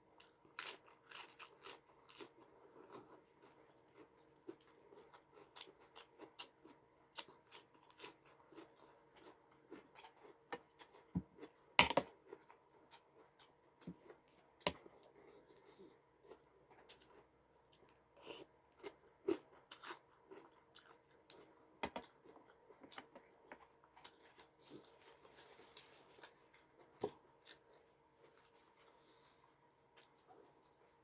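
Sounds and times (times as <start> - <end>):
person chewing crunchy food: 0.1 - 29.0.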